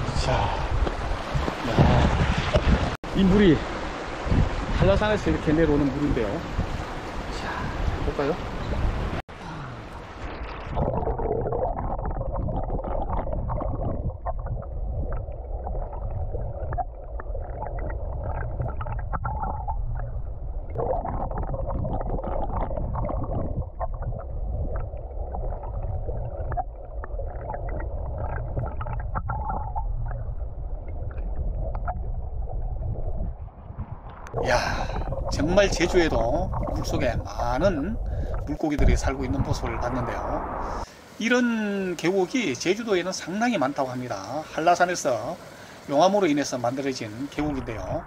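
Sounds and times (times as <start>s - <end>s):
underwater stream rumble and gurgle: 0.0s - 3.0s, 3.6s - 9.2s, 9.8s - 41.2s, 47.2s - 48.0s.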